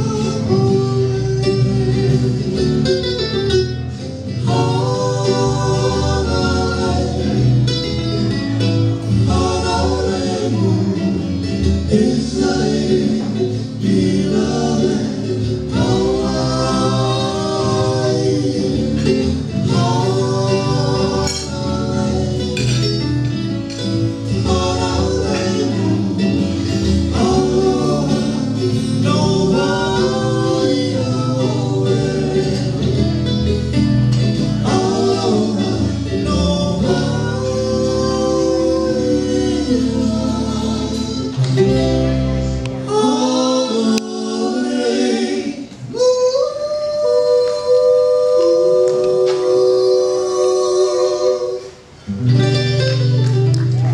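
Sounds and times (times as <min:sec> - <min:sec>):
person singing: 0:00.0 - 0:08.2, 0:09.0 - 0:53.2
electric bass: 0:00.0 - 0:45.9, 0:48.2 - 0:53.9
ukuleles and guitar playing: 0:00.0 - 0:53.9.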